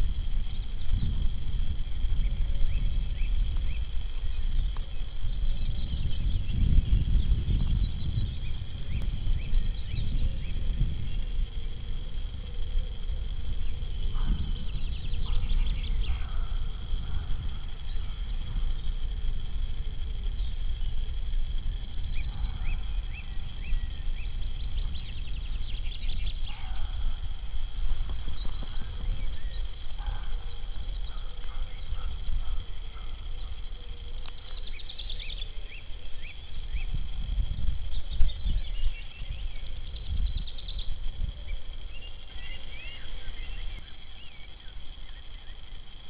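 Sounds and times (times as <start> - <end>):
bird chirping: 0.0 - 46.0
wind rumbling on microphone: 0.0 - 46.0.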